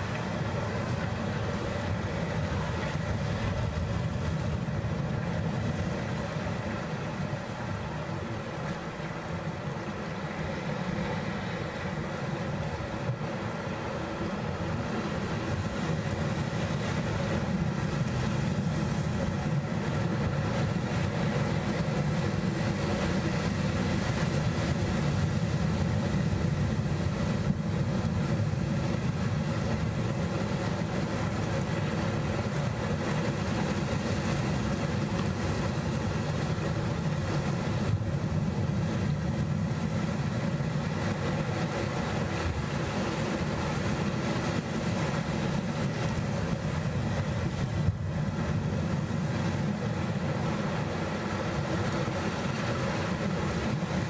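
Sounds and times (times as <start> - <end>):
waves washing over rocks: 0.0 - 54.0.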